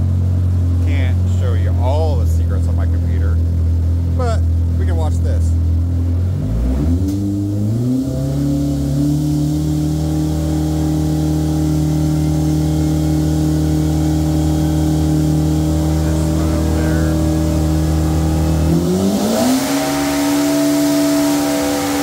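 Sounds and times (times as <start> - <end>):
engine running hard on a dyno: 0.0 - 22.0.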